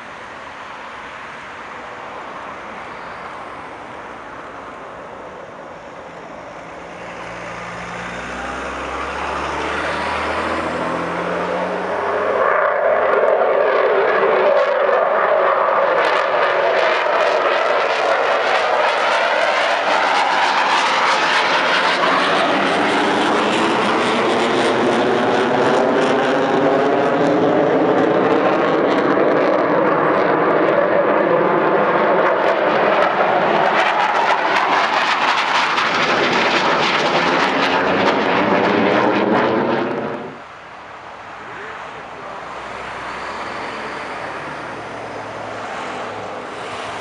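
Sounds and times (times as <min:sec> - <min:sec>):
fighter jet engine roaring: 0:00.0 - 0:47.0.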